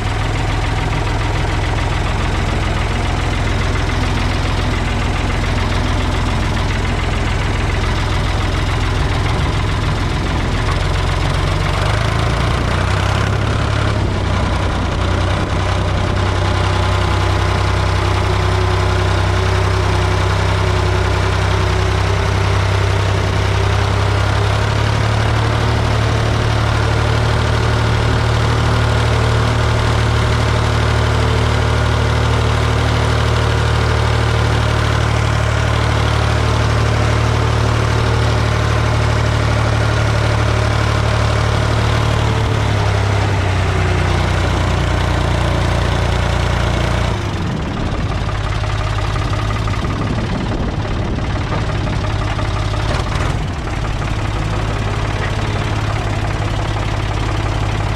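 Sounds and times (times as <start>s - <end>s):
backhoe engine running: 0.0s - 57.9s.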